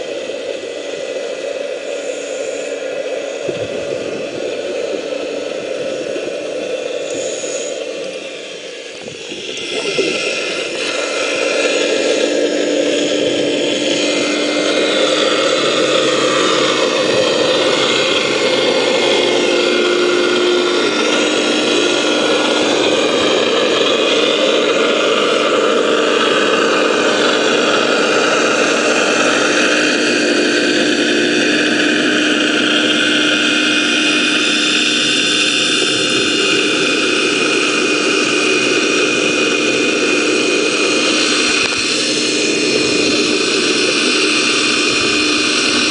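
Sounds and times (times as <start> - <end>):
rushing water hiss: 0.0 - 45.9
underwater engine and pump drone: 0.0 - 45.9.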